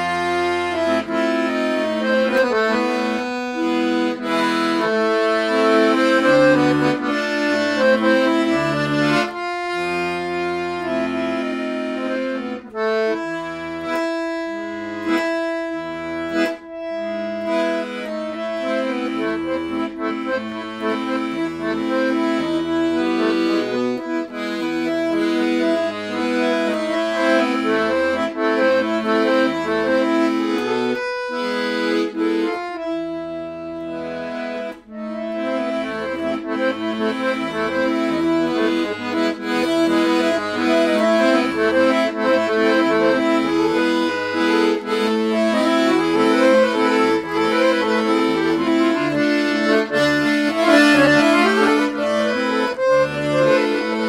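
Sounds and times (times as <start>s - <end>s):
accordion bass notes and chords: 0.0s - 54.0s
accordion melody: 0.0s - 54.0s.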